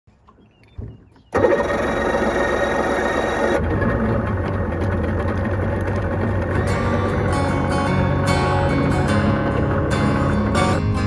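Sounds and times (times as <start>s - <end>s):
outboard motor cranking: 0.2s - 11.0s
outboard motor running: 0.3s - 11.0s.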